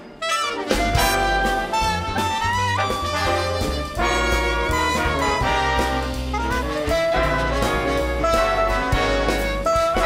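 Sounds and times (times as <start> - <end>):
brass section: 0.0 - 10.0
jazz big band playing: 0.0 - 10.0
double bass: 0.2 - 10.0.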